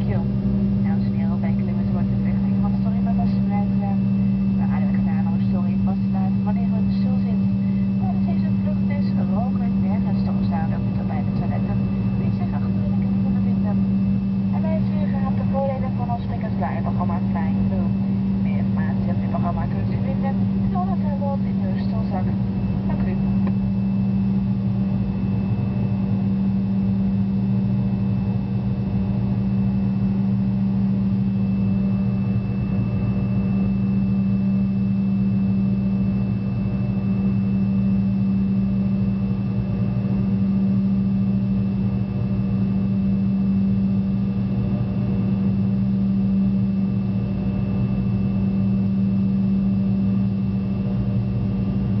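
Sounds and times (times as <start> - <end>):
jet engine cabin drone: 0.0 - 52.0.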